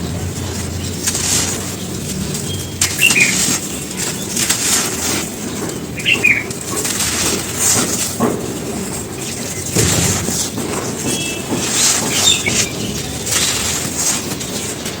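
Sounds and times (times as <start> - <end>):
charcoal ash crunching: 0.0 - 15.0
gritty background noise: 0.0 - 15.0.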